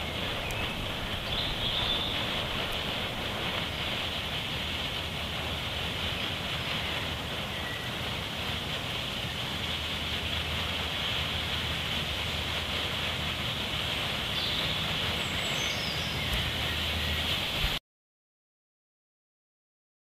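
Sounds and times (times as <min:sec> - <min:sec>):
low steady rumble: 0:00.0 - 0:17.8
smoke grenade hissing: 0:00.0 - 0:17.8.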